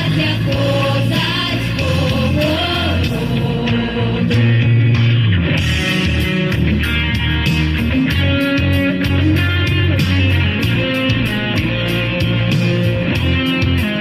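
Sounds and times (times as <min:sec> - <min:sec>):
bass: 0:00.0 - 0:14.0
pop-rock guitar instrumental: 0:00.0 - 0:14.0
steady drum beat: 0:00.0 - 0:14.0.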